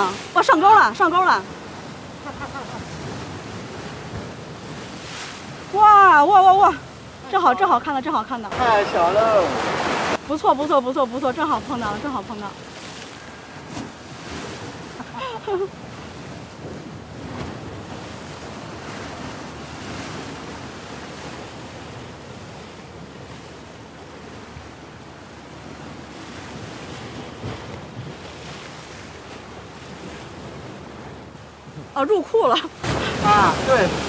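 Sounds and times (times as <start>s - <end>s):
waves breaking on rocks: 0.0s - 34.0s.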